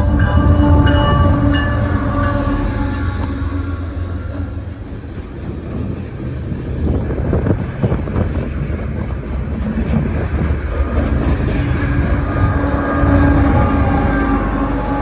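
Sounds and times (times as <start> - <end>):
diesel locomotive engine hum: 0.0 - 15.0
freight cars rumbling: 0.0 - 15.0.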